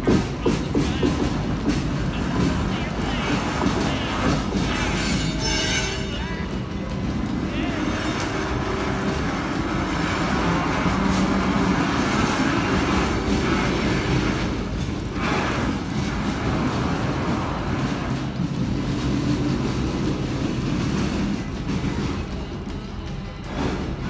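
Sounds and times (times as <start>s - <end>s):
diesel locomotive engine drone: 0.0s - 24.0s
rail noise: 0.0s - 24.0s.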